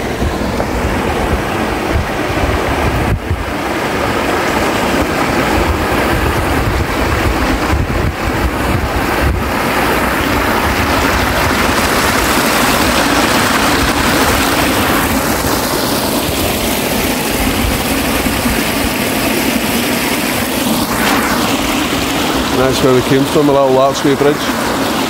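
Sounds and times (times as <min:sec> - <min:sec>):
stream water rushing down rocks: 0:00.0 - 0:25.0
wind buffeting microphone: 0:00.0 - 0:25.0.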